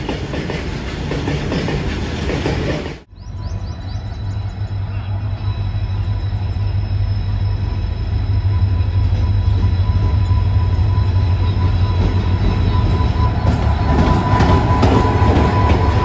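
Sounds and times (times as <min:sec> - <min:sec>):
train wheels rattling on rails: 0:00.0 - 0:03.1, 0:04.5 - 0:16.0
high whine: 0:03.1 - 0:16.0.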